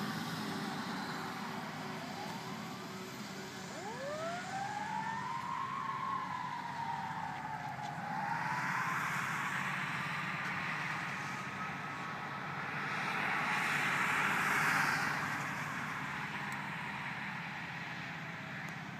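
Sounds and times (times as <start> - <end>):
tyres hissing on wet road: 0.0 - 3.9, 7.4 - 18.6
fire engine siren wailing: 0.0 - 18.9.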